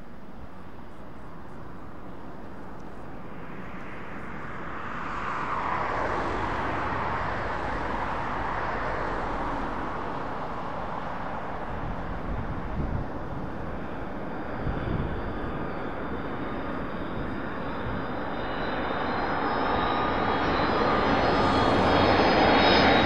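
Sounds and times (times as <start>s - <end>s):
jet rumble and whine: 0.0s - 23.0s.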